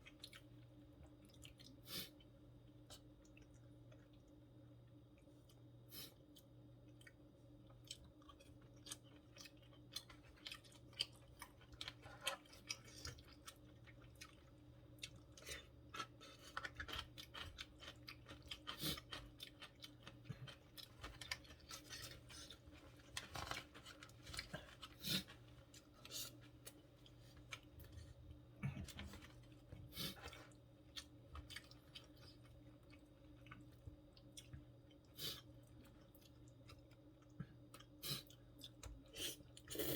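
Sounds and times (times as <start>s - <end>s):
chewing food: 0.0s - 39.9s
faint steady hum: 0.0s - 39.9s.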